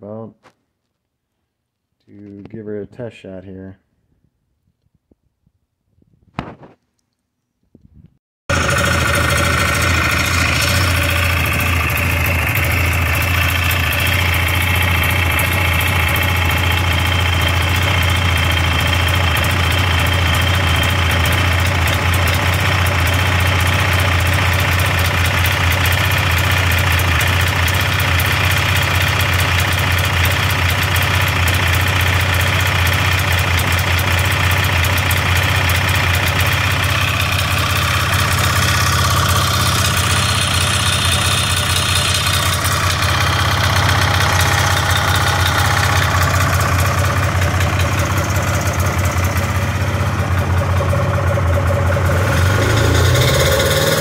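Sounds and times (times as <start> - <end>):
two-stroke engine running rough: 8.5 - 54.0.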